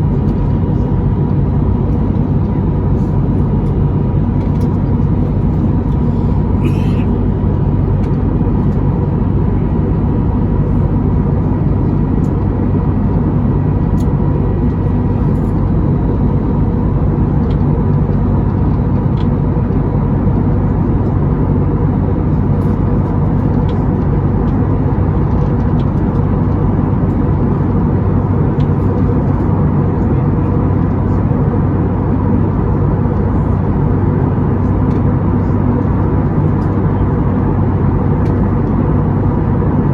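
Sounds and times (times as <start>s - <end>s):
jet engine cabin noise: 0.0s - 39.9s.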